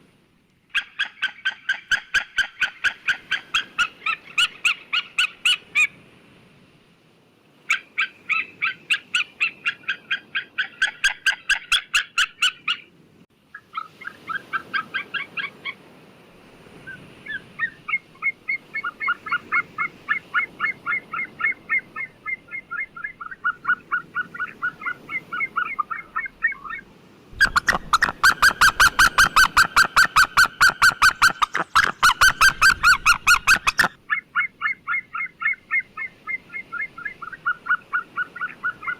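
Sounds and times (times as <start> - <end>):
eagle yelping calls: 0.7 - 5.9, 7.7 - 12.9, 16.8 - 38.9.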